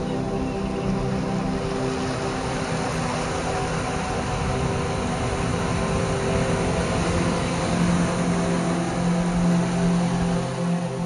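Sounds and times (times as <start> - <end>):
slow background music: 0.0 - 11.0
surf rushing: 0.0 - 11.0.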